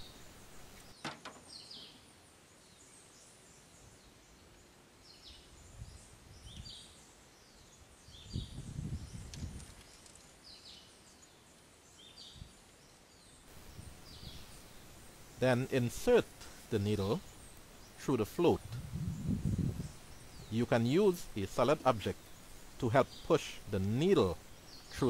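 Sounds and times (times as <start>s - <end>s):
bird chirping: 0.0s - 9.3s, 10.0s - 25.0s.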